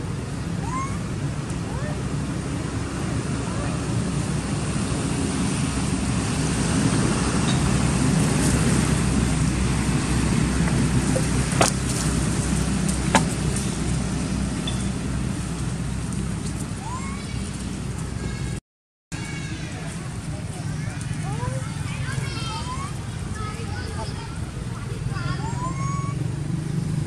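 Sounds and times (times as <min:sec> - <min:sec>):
low outdoor rumble: 0:00.0 - 0:18.6, 0:19.2 - 0:27.0.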